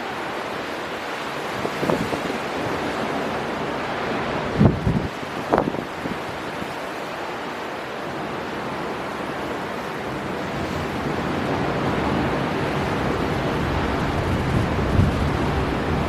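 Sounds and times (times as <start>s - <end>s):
rushing surf: 0.0s - 16.0s
storm wind: 0.0s - 16.0s.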